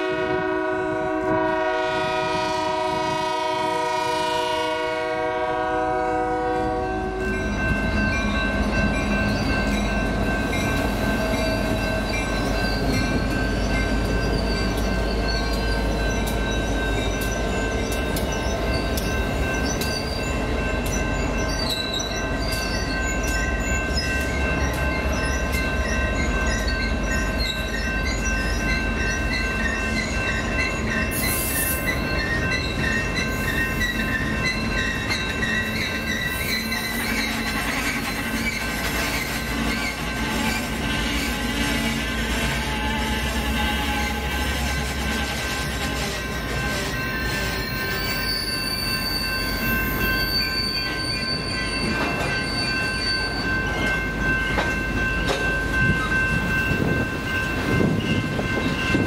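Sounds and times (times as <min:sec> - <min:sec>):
freight train rumbling: 0:00.0 - 0:59.0
train wheels squealing: 0:07.0 - 0:59.0.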